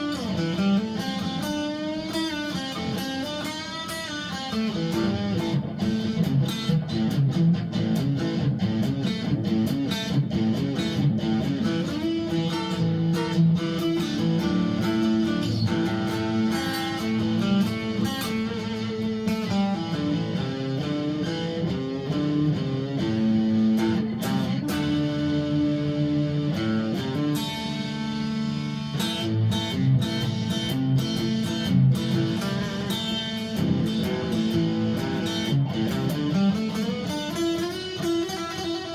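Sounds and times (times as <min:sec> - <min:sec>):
overdriven electric guitar riffs: 0:00.0 - 0:38.9.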